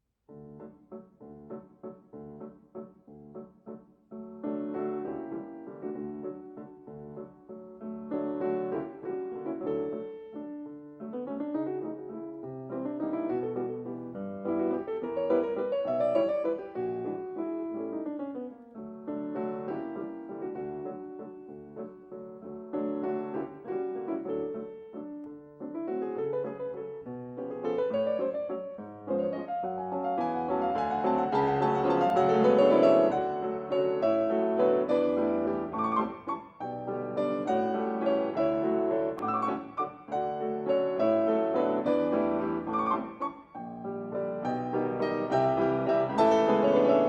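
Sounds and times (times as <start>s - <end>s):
piano music: 0.3s - 47.0s.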